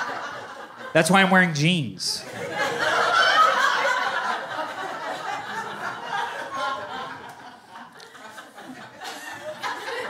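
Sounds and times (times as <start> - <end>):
audience laughing: 0.0 - 1.4, 2.2 - 10.0.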